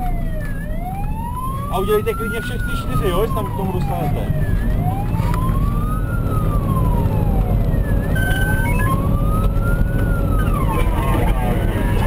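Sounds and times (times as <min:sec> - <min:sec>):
fire engine siren wailing: 0:00.0 - 0:12.0
road noise: 0:00.0 - 0:12.0
truck engine rumble: 0:00.0 - 0:12.0.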